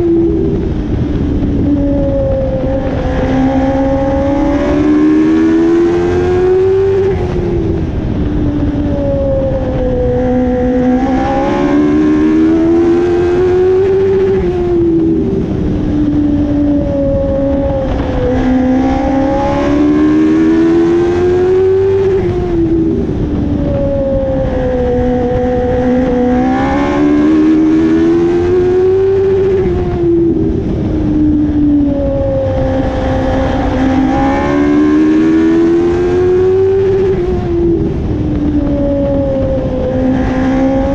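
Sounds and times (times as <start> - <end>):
race car engine revving: 0.0 - 40.9
wind and road noise: 0.0 - 40.9.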